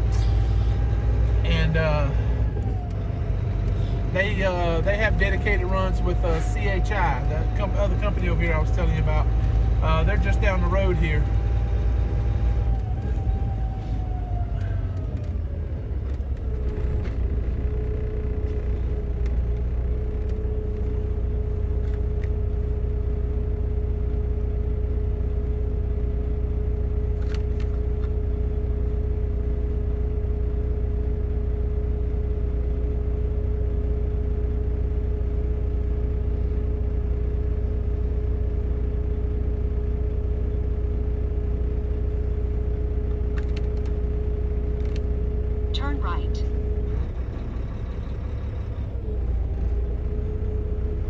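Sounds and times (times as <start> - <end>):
constant hum: 0.0 - 51.0
truck engine and road rumble: 0.0 - 51.0.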